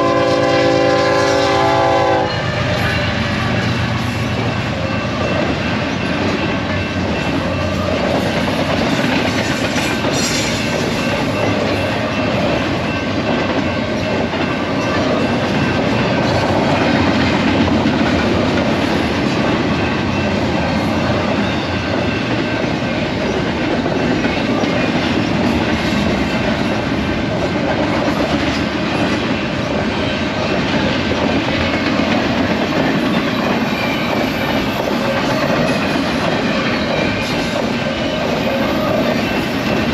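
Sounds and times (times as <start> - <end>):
freight train wheels rumbling: 0.0 - 39.9
clickety-clack over rail joints: 0.2 - 39.9.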